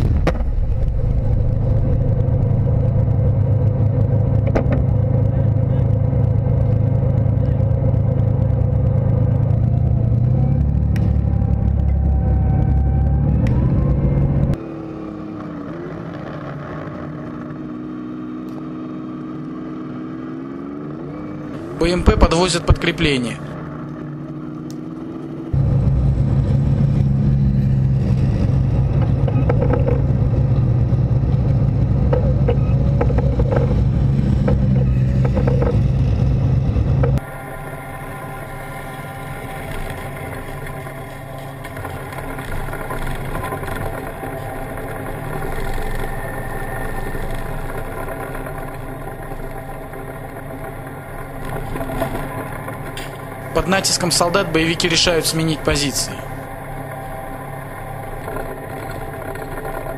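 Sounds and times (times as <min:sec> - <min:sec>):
heavy diesel engine drone: 0:00.0 - 0:59.9.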